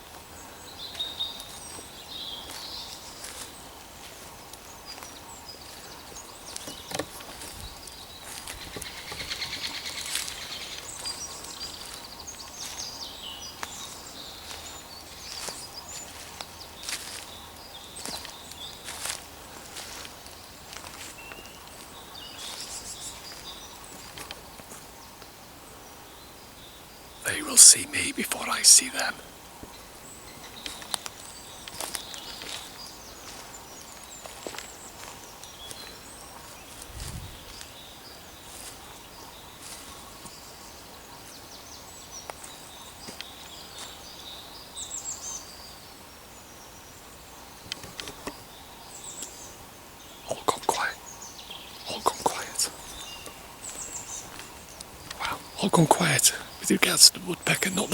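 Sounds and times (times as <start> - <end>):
steady outdoor hiss: 0.0 - 57.9.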